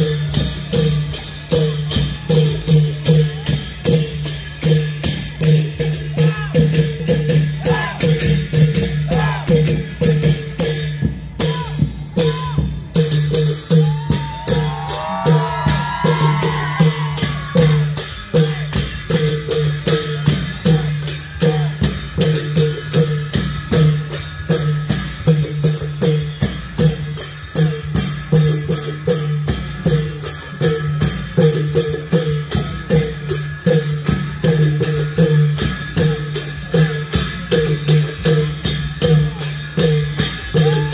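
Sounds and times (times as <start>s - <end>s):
cymbals: 0.0s - 40.9s
long drums beating: 0.0s - 40.9s.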